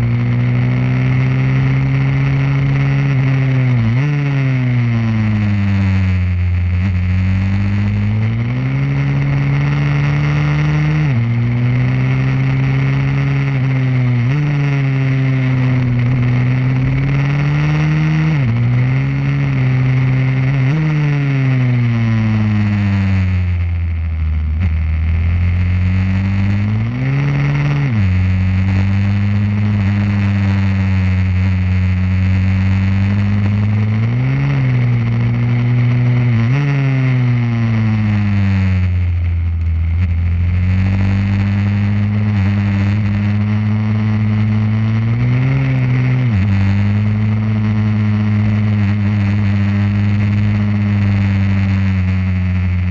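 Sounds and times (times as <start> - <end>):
motorbike engine revving: 0.0 - 52.9.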